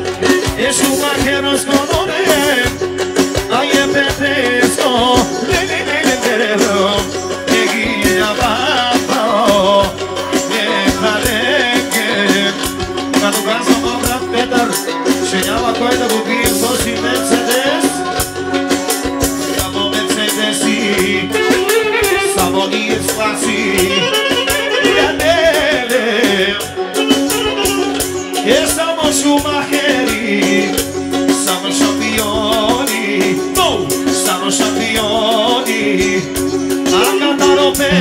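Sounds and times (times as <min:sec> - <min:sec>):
fast dense percussion beat: 0:00.0 - 0:38.0
man singing into microphone: 0:00.0 - 0:38.0.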